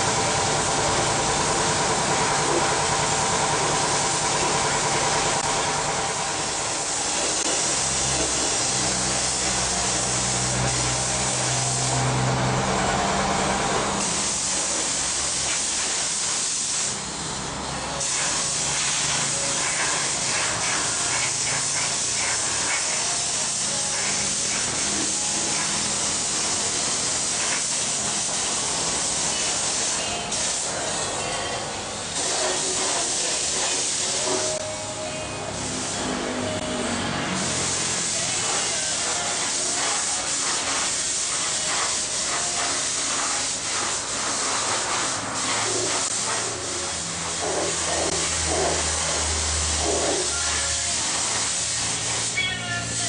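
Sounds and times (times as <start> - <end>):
paint spray gun hissing: 0.0 - 12.2, 14.0 - 17.3, 18.0 - 31.3, 32.0 - 34.6, 37.4 - 53.0.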